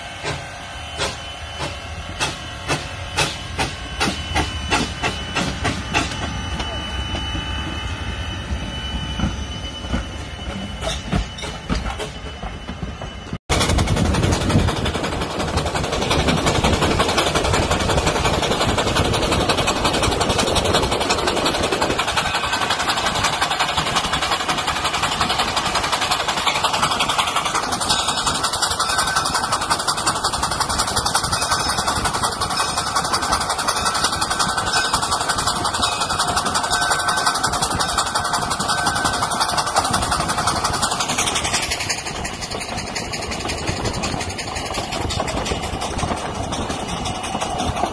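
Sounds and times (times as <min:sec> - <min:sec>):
steam locomotive hissing: 0:00.0 - 0:47.9
train running noise: 0:00.0 - 0:47.9
rush of wind: 0:01.8 - 0:47.9.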